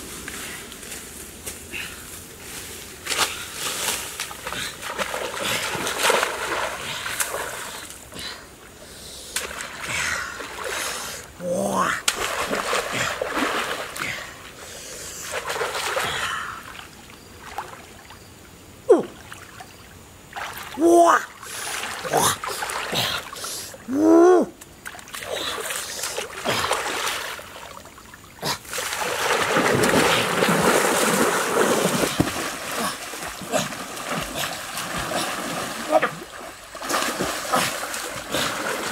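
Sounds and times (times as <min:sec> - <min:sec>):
water splashing and sloshing: 0:00.0 - 0:18.4, 0:19.0 - 0:23.9, 0:24.6 - 0:38.9.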